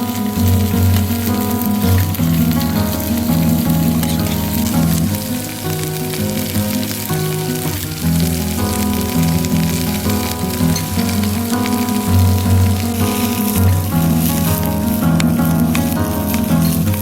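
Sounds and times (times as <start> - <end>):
music with long held notes: 0.0 - 17.0
sizzling crackle: 0.0 - 17.0.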